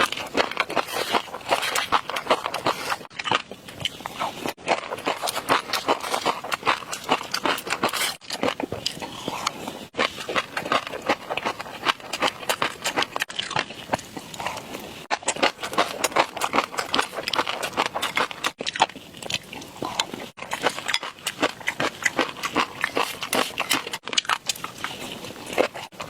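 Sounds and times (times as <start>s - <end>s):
chewing food close-up: 0.0s - 26.0s.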